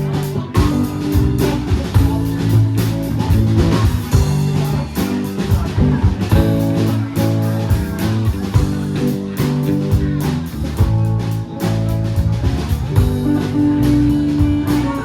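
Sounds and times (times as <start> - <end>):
drum kit beat: 0.0 - 15.0
electric guitar: 0.0 - 15.0.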